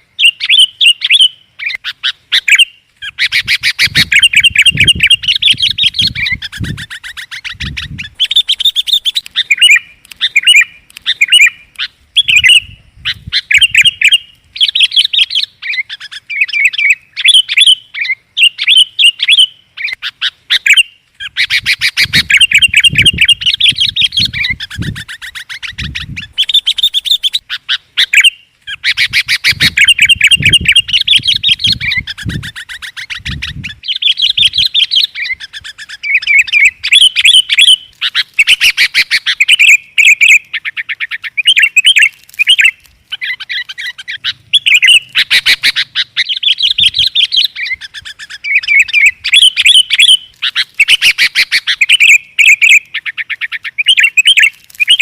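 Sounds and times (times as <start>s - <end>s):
bulbul calling: 0.0s - 55.0s.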